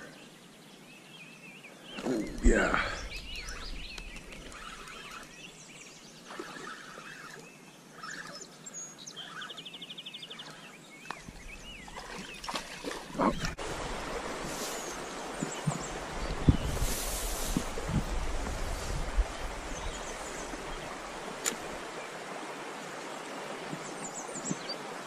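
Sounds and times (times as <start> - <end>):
songbirds singing: 0.0 - 25.0.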